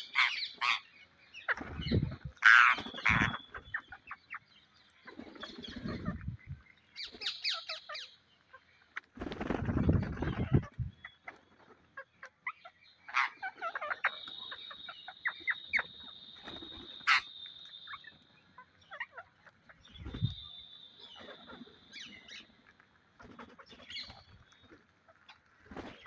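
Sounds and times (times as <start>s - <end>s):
parakeets chattering and squawking: 0.0s - 26.0s.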